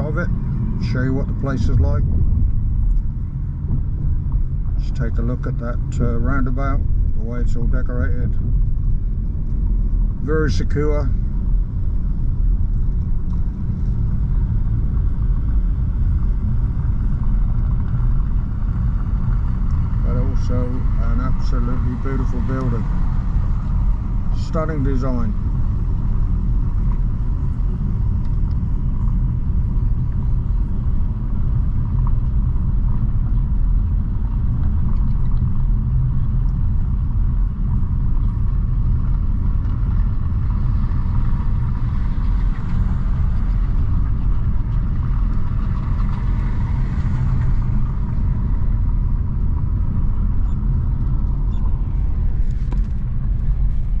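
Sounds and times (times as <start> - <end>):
engine and tyre rumble in car: 0.0 - 54.0.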